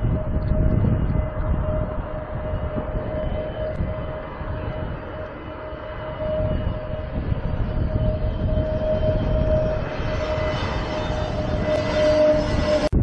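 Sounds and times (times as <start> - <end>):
jet airliner passing low: 0.0 - 13.0.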